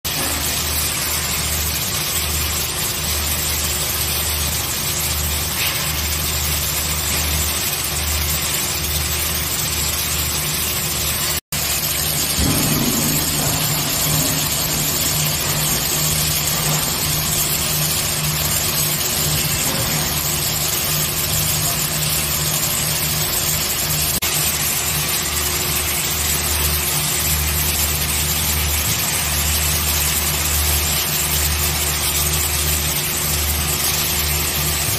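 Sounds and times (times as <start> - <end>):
pulsing machine hum: 0.1 - 34.9
welding arcs hissing: 0.1 - 34.9.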